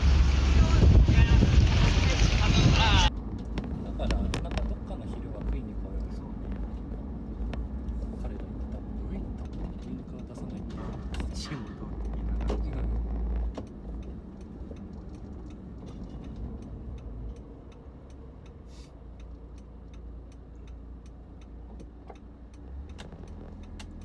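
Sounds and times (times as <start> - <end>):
car engine and road rumble: 0.0 - 24.0
turn signal ticking: 3.1 - 24.0.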